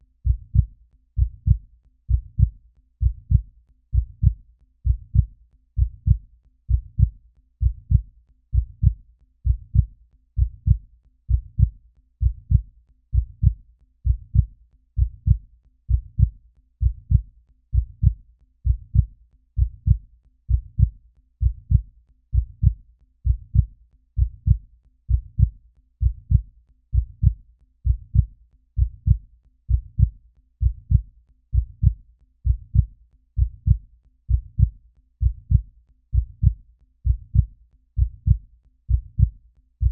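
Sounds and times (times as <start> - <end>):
heartbeat low double thuds: 0.2 - 39.9.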